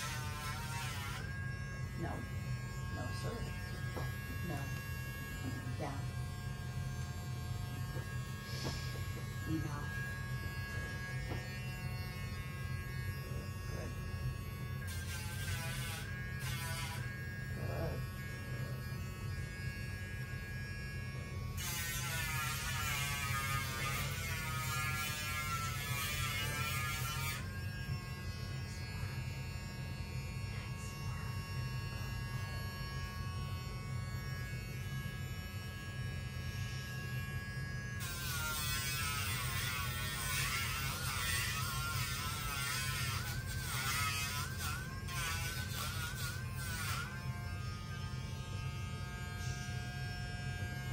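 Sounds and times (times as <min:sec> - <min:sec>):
rotary nail grinder buzzing: 0:00.0 - 0:50.9.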